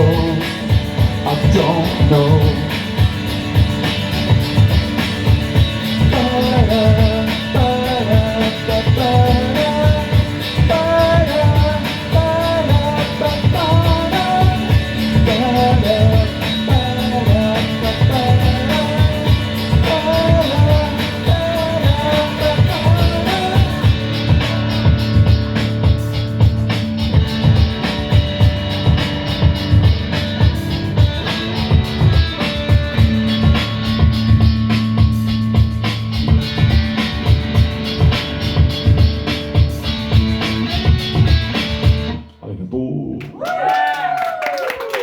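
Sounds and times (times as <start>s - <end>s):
steady drum beat: 0.0s - 42.2s
electric guitar melody: 0.0s - 42.4s
bass: 0.0s - 45.0s.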